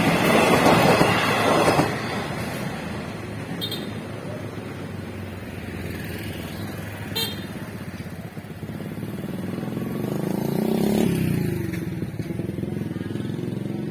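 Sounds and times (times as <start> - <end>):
vehicle engines passing close: 0.0 - 13.9.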